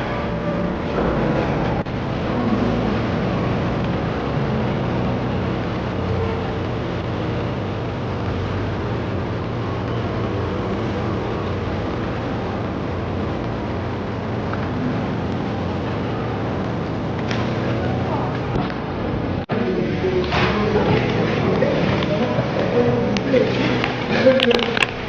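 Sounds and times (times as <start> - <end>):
railway station background din: 0.0 - 25.0.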